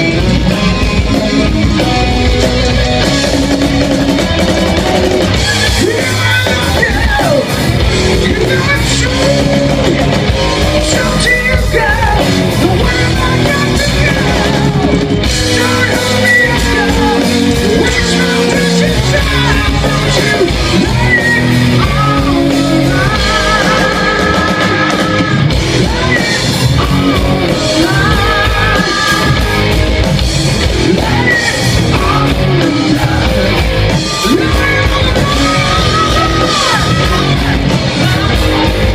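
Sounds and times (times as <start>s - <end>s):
bass: 0.0s - 38.9s
distorted electric guitars: 0.0s - 38.9s
drum kit: 0.0s - 38.9s
person singing and yelling: 5.3s - 29.8s, 30.5s - 38.9s.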